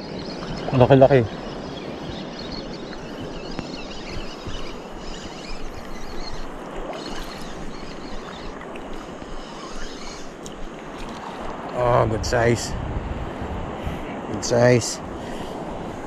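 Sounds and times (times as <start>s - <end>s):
small waves at shoreline: 0.0s - 16.0s
wind on microphone: 0.0s - 16.0s.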